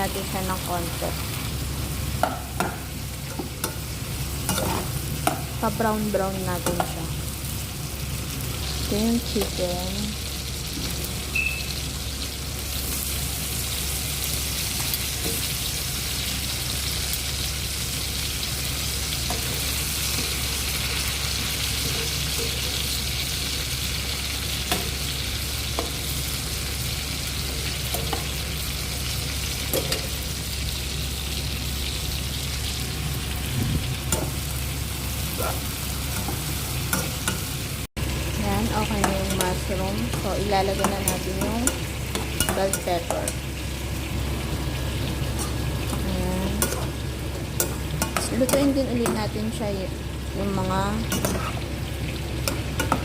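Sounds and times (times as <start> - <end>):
food frying in hot oil: 0.0 - 53.0.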